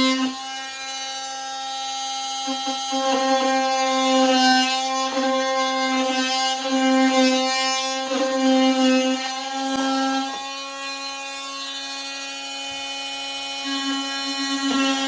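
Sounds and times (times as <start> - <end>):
power tool high-pitched whine: 0.0 - 15.0.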